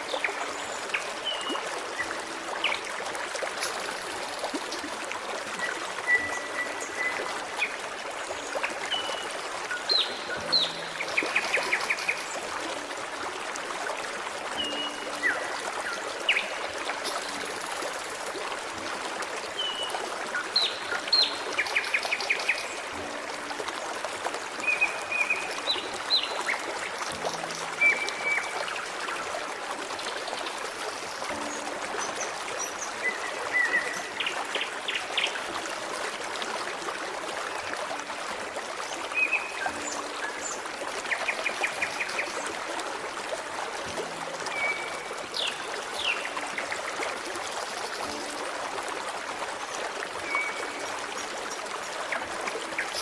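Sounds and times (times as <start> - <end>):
forest stream running: 0.0 - 53.0.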